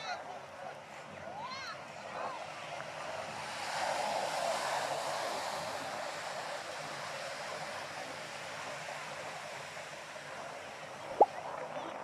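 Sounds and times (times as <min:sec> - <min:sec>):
ocean surf on sandy beach: 0:00.0 - 0:12.0.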